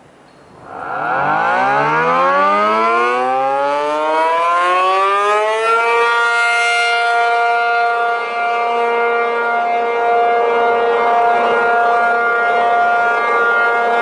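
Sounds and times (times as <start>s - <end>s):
two-tone warning siren: 0.5s - 14.0s.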